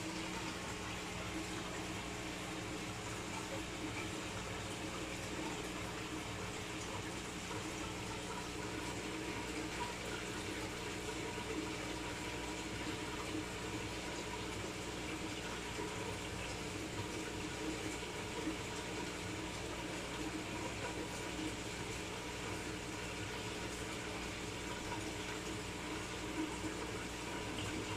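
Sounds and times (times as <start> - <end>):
running water: 0.0 - 27.9.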